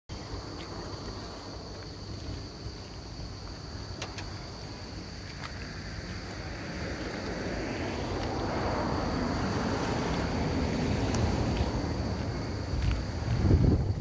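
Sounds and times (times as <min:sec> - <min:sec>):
insects droning: 0:00.1 - 0:14.0.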